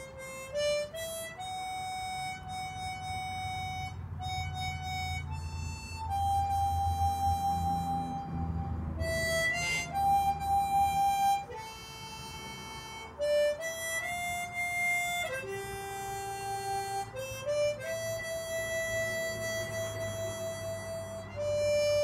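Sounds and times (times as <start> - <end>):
slow harmonica melody: 0.0 - 22.0.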